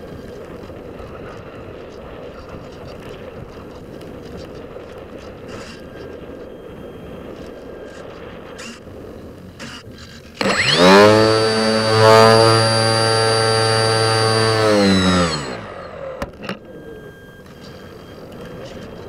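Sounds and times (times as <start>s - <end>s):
electric motor and propeller whine: 0.0s - 19.0s.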